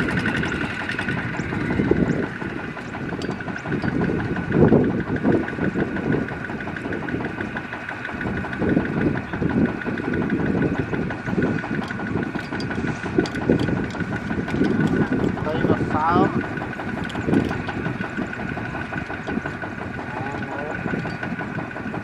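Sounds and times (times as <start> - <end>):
diesel tractor engine idling: 0.0 - 22.0.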